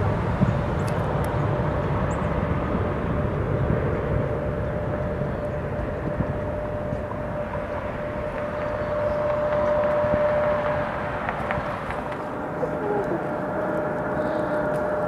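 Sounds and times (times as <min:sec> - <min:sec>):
faint engine whine: 0:00.0 - 0:15.0
jet engines rumbling: 0:00.0 - 0:15.0.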